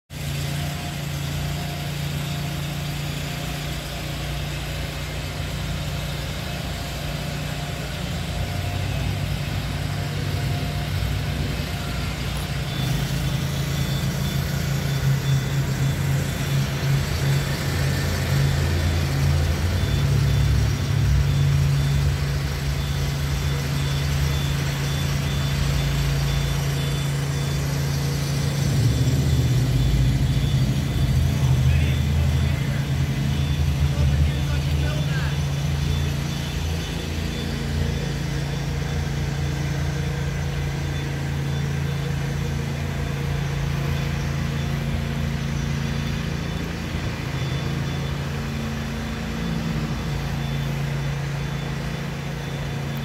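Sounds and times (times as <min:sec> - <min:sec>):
engine idling: 0:00.1 - 0:53.0.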